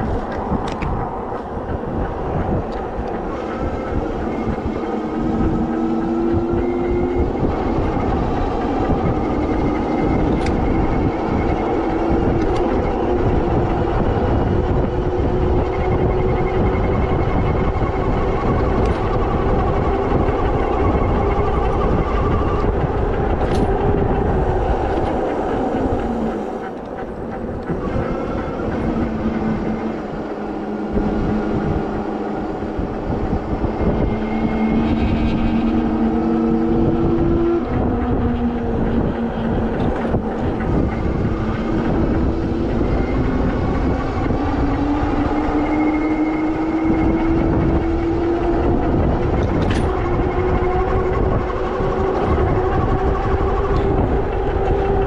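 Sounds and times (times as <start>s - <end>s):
electric drive whine: 0.0s - 55.0s
wind buffeting microphone: 0.0s - 55.0s.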